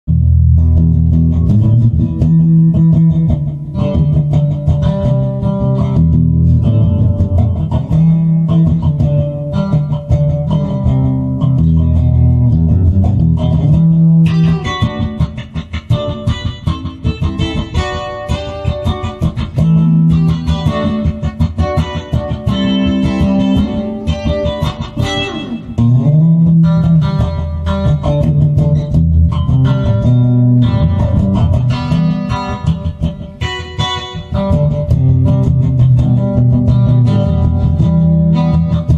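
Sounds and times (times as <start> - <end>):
fast plucked guitar: 0.0 - 38.9
low bass notes: 0.0 - 38.9.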